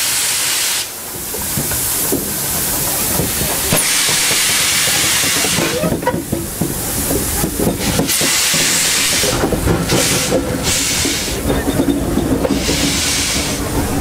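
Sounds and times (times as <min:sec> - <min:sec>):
steam hissing from locomotive: 0:00.0 - 0:14.0
locomotive engine rumble: 0:00.4 - 0:14.0.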